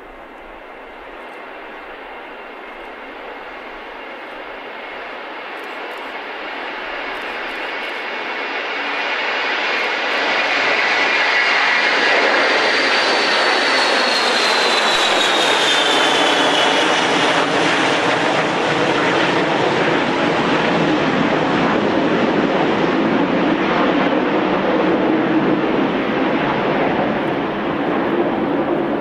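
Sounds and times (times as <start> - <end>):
jet engine roar and whine: 0.0 - 29.0.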